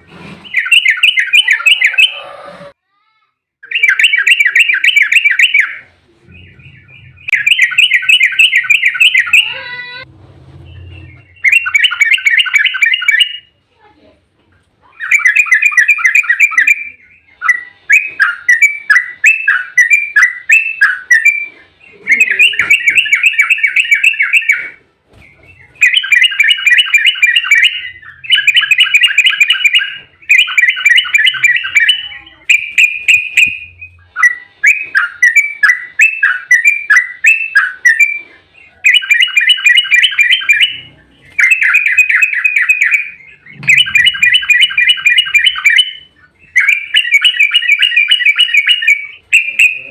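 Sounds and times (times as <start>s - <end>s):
bird rapid chattering song: 0.4s - 2.3s, 3.6s - 9.7s, 10.6s - 13.5s, 14.8s - 49.9s.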